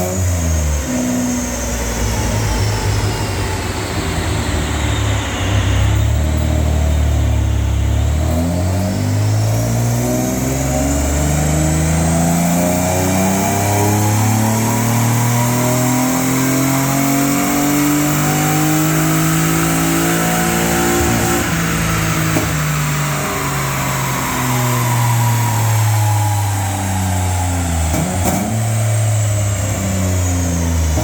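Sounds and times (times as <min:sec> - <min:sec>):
car engine revving at full throttle: 0:00.0 - 0:31.0
high falling whine: 0:00.4 - 0:17.4, 0:18.6 - 0:31.0.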